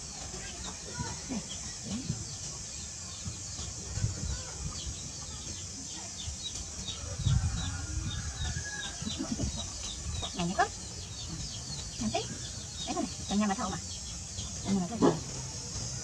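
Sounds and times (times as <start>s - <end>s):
steady high hiss: 0.0s - 16.0s
bird chirping: 0.4s - 16.0s.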